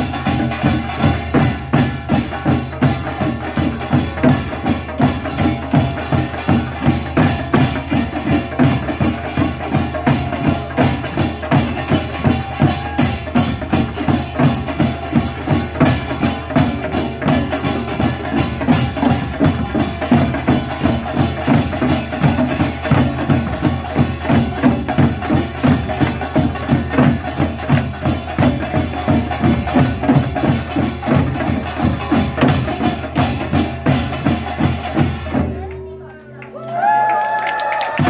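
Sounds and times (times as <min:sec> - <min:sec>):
drums beaten fast: 0:00.0 - 0:35.8.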